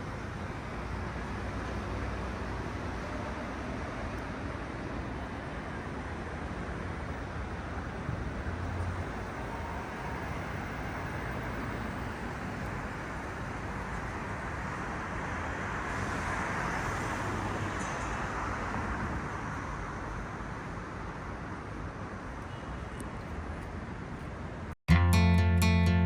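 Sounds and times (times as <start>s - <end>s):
passing cars: 0.0s - 22.3s.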